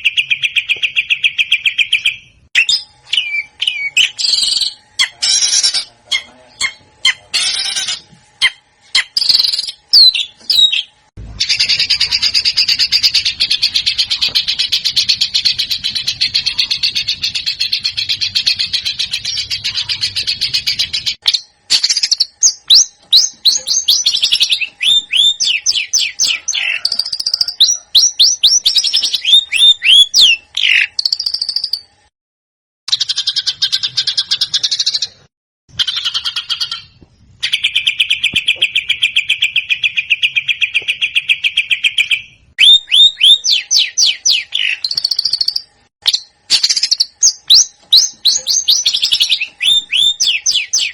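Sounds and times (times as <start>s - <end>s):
songbird chattering trill: 0.0s - 31.9s, 35.8s - 50.9s.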